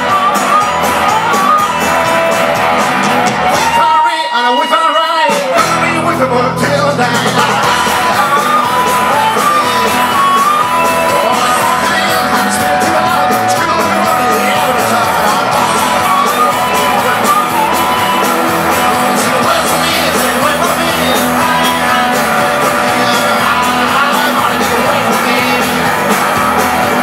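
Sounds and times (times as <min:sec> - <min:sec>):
electric bass: 0:00.0 - 0:03.8, 0:05.6 - 0:27.0
drums: 0:00.0 - 0:27.0
person singing: 0:00.0 - 0:27.0.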